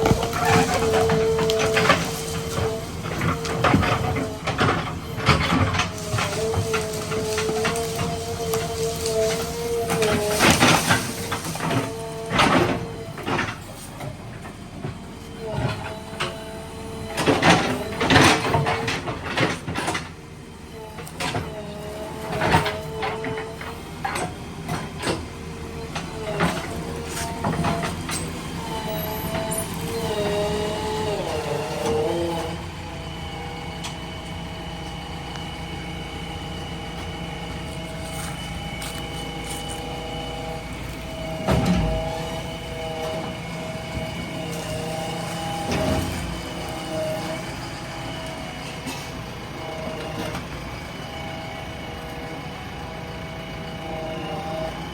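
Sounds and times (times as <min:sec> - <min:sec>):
diesel engine and hydraulics: 0:00.0 - 0:54.9.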